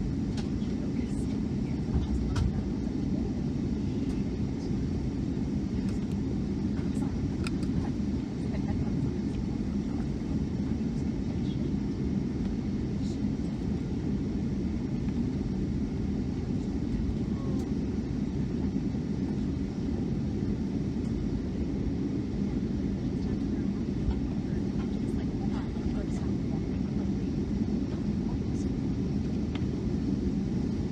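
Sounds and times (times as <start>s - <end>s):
airplane cabin engine rumble: 0.0s - 30.9s.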